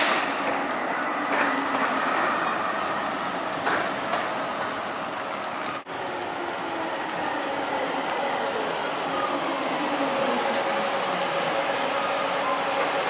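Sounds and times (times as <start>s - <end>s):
street traffic noise: 0.0s - 13.0s
tram rolling on rails: 0.0s - 13.0s.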